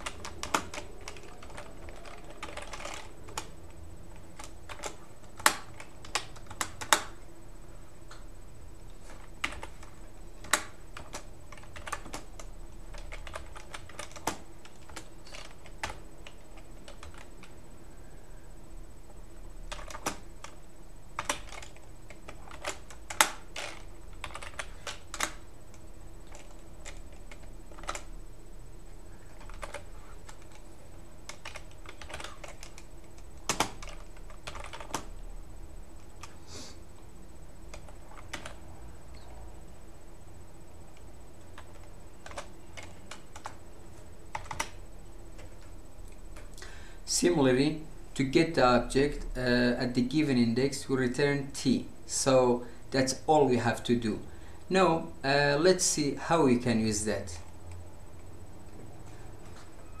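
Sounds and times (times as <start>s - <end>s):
faint steady hum: 0.0s - 60.0s.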